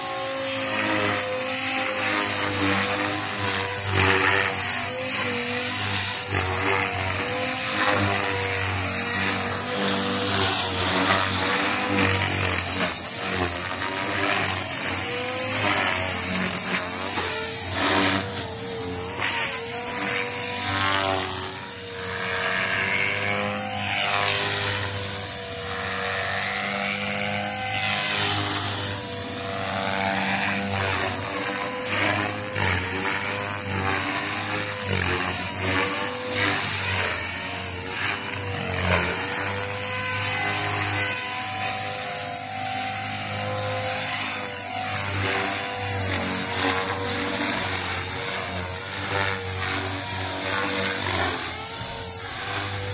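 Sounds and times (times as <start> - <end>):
rc helicopter motor and rotor whine: 0.0 - 52.9.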